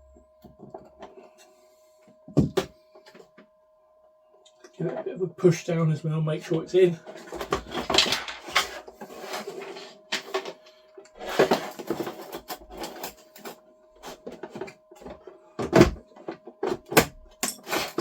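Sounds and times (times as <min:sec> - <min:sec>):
faint steady tone: 0:00.0 - 0:17.7.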